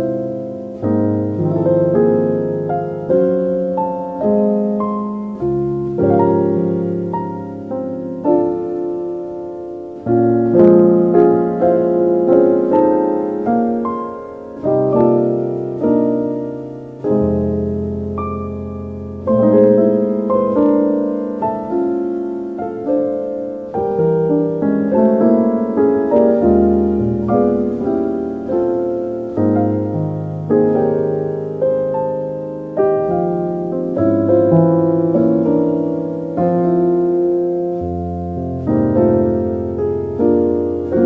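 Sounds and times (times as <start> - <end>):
slow solo piano: 0.0 - 41.0.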